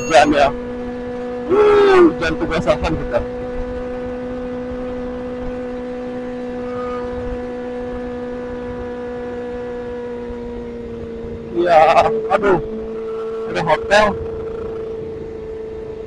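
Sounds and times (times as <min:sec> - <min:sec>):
motorcycle engine cruising: 0:00.0 - 0:16.0
road noise: 0:00.0 - 0:16.0
rushing wind: 0:00.0 - 0:16.0.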